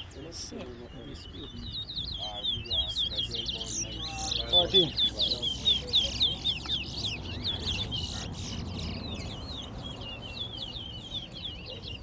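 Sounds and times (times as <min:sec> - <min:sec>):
finch singing whistled notes: 0:00.0 - 0:12.0.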